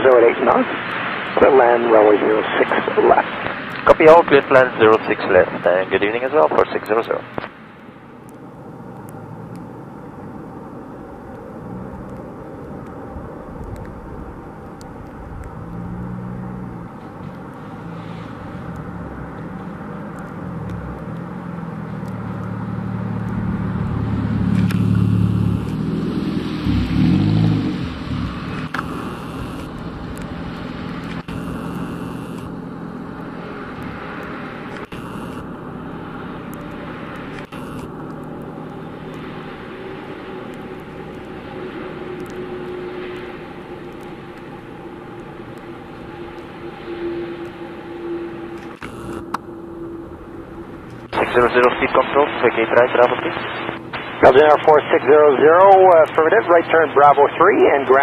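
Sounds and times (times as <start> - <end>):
jet engines rumbling overhead: 0.0 - 58.0.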